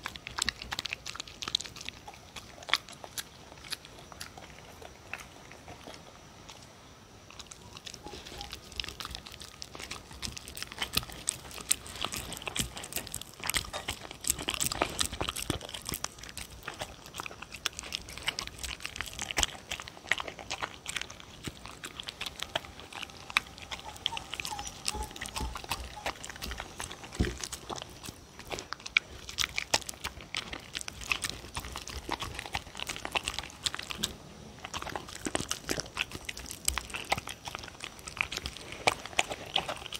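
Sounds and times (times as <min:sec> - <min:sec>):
dog chewing wet food: 0:00.0 - 0:39.9.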